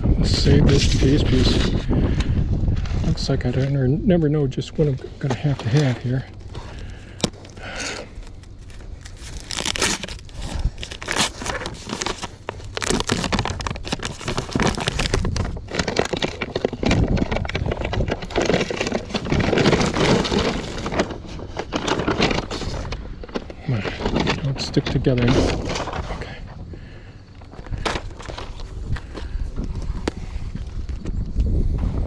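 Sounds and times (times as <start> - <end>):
crinkling and rustling: 0.0 - 31.3.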